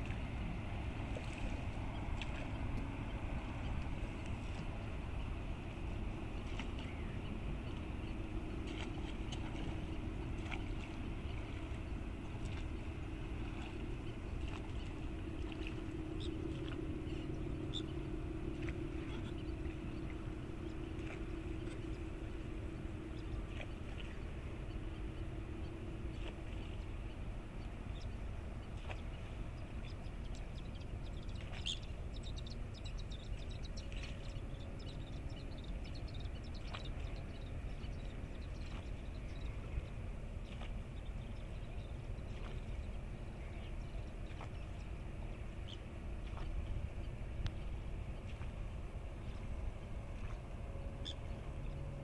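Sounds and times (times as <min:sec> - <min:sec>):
droning hum: 0:00.0 - 0:52.0
ship rumble: 0:00.0 - 0:52.0.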